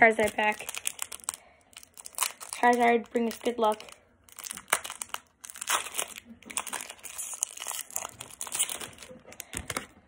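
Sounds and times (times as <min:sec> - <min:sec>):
foil wrapper crinkling: 0:00.0 - 0:09.9.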